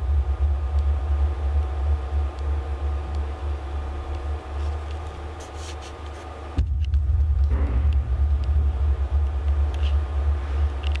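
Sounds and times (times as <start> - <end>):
deep wavering rumble: 0.0 - 4.6, 6.6 - 11.0.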